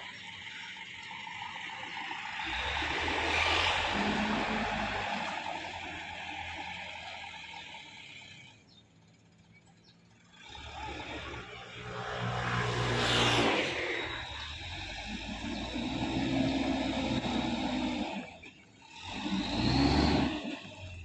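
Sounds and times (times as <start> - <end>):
dump truck engine running: 0.0 - 21.0.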